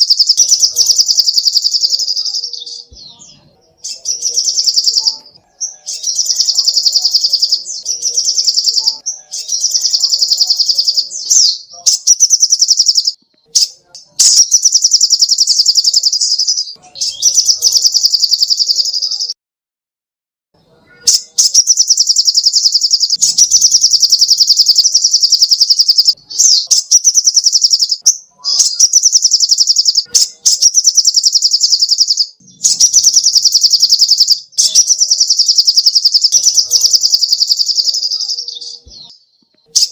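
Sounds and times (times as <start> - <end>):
songbird singing rapid trills: 0.0 - 19.3, 21.1 - 39.9.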